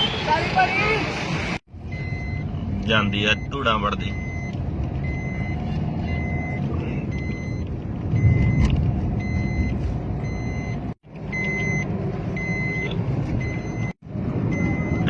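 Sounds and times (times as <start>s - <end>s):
road traffic passing: 0.0s - 15.0s
short electronic beeps: 1.9s - 7.6s, 8.2s - 15.0s.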